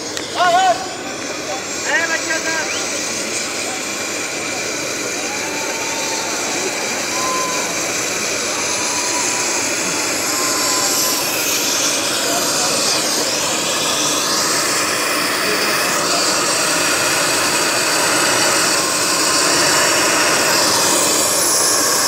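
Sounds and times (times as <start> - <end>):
faint high whine: 0.0 - 22.0
helicopter turbine and rotor: 0.0 - 22.0.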